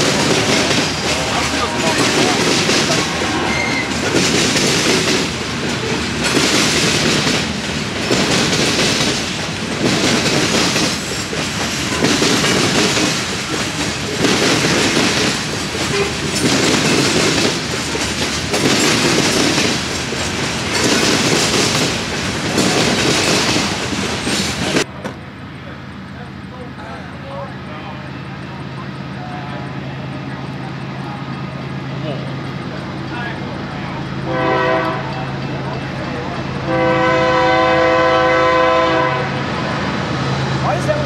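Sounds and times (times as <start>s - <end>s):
train wheels clattering on rails: 0.0s - 41.0s.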